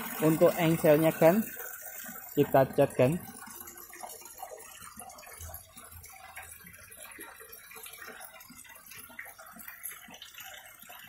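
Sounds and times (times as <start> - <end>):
water dripping: 0.0 - 11.0
water trickling into pond: 0.0 - 11.0.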